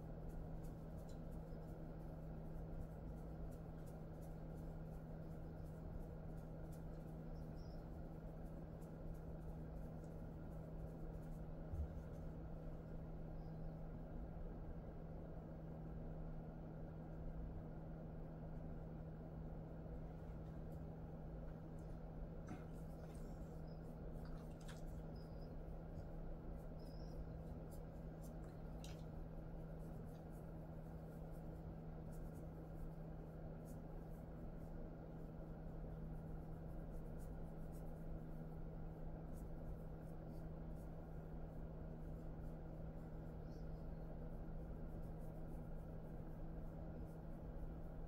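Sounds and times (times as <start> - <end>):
hand rubbing dog fur: 0.0 - 13.7, 20.0 - 48.0
steady low hum: 0.0 - 48.0.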